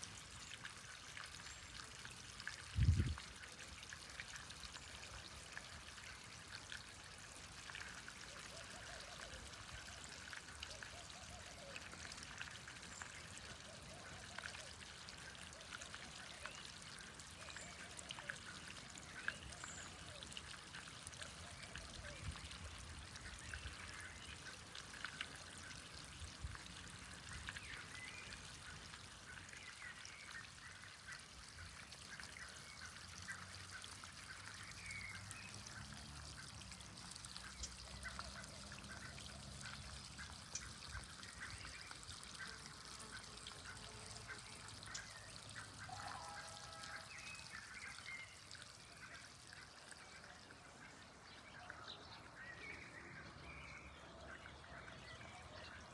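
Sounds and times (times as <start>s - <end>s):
stream trickling and babbling: 0.0s - 55.9s.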